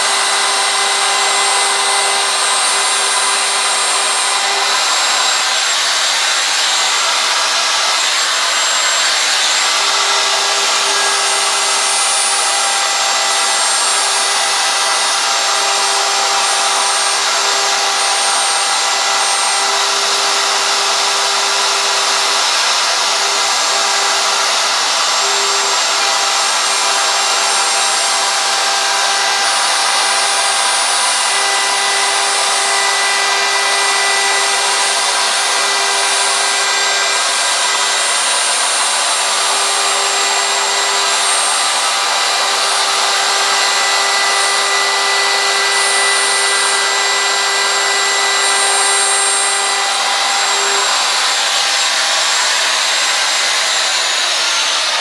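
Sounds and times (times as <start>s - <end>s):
router cutting wood: 0.0s - 55.0s.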